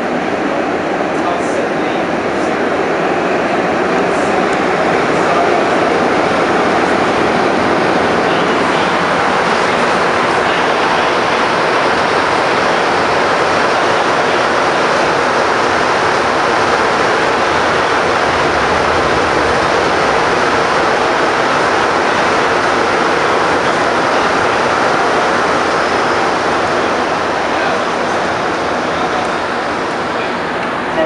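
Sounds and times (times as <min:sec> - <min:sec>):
train tyres running on track: 0:00.0 - 0:31.0.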